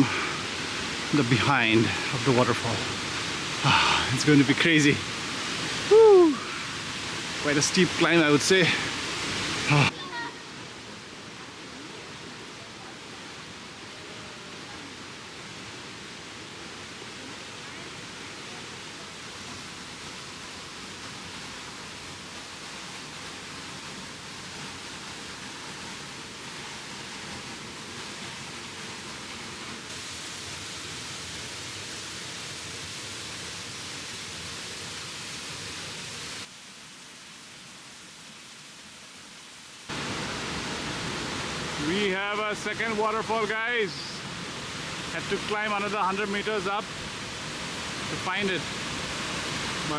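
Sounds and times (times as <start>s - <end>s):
waterfall rushing: 0.0s - 38.9s, 39.7s - 49.9s.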